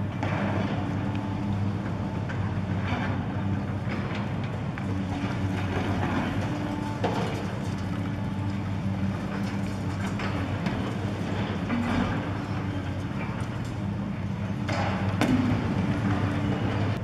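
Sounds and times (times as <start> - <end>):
excavator diesel engine running: 0.0 - 17.0
hydraulic shear crunching concrete: 0.0 - 17.0.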